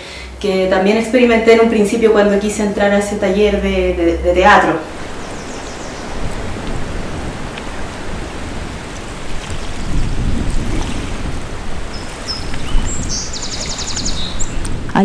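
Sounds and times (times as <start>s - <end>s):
gusty low rumbling: 0.0s - 15.0s
steady rushing noise: 0.0s - 15.0s.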